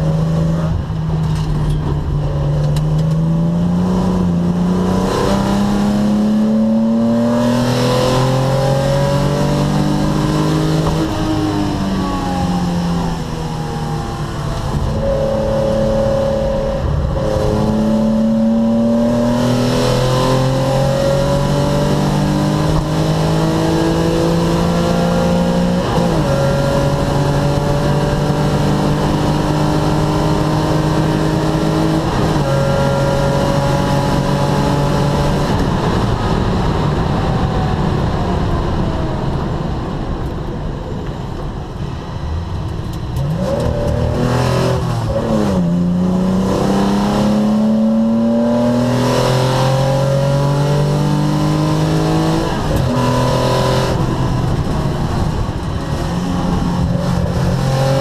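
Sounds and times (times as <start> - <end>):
car engine revving through gears: 0.0 - 39.4, 41.9 - 58.0.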